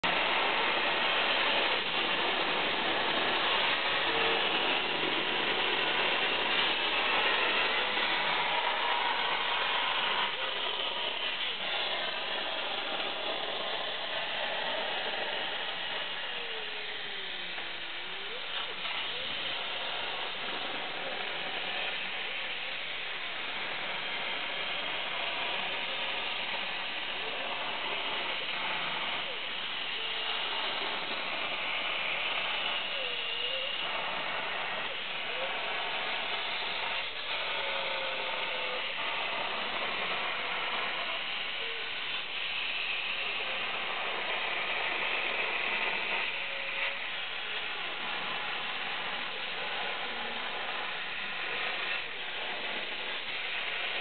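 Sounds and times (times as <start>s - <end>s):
machine motors whining: 0.0s - 54.0s.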